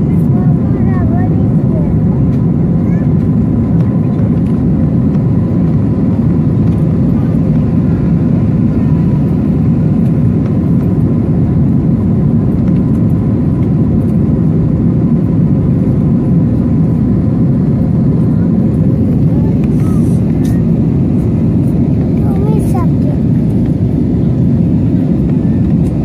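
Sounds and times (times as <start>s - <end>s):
jet engine roar in cabin: 0.0s - 26.0s.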